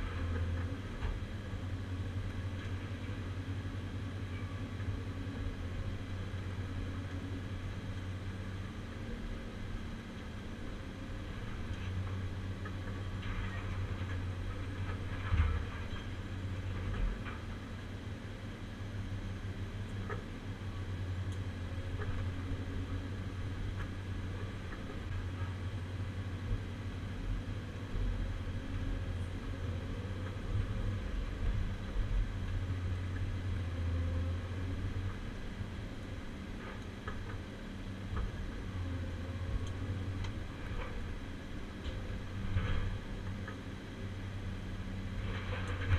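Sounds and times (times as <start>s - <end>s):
excavator diesel engine: 0.0s - 45.9s.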